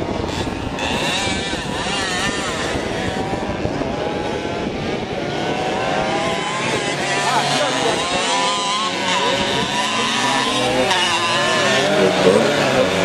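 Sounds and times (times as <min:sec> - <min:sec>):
two-stroke moped engines revving: 0:00.0 - 0:13.0.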